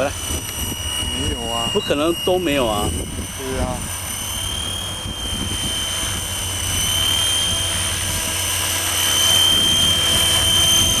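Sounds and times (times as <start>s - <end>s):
model helicopter hovering: 0.0s - 11.0s.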